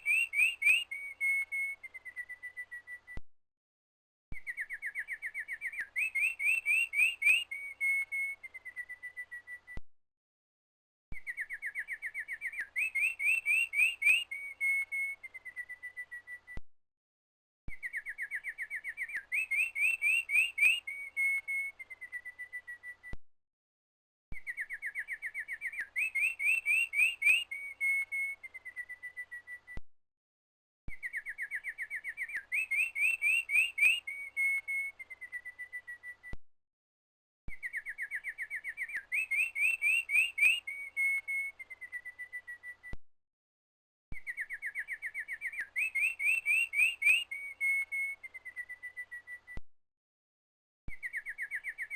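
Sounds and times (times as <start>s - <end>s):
bird singing trilling song: 0.0s - 3.2s, 4.3s - 9.8s, 11.1s - 16.6s, 17.7s - 23.2s, 24.3s - 29.8s, 30.9s - 36.4s, 37.5s - 43.0s, 44.1s - 49.6s, 50.9s - 51.9s.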